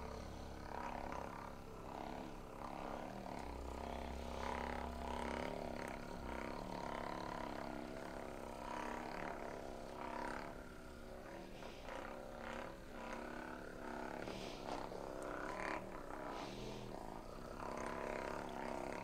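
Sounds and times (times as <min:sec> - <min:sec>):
massage gun motor buzz: 0:00.0 - 0:19.0.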